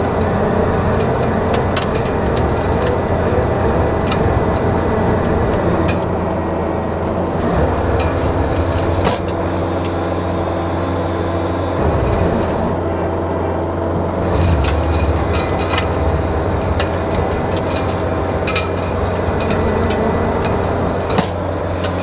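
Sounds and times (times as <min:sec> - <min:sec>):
diesel engine under load: 0:00.0 - 0:22.0
power rake churning soil: 0:00.0 - 0:22.0.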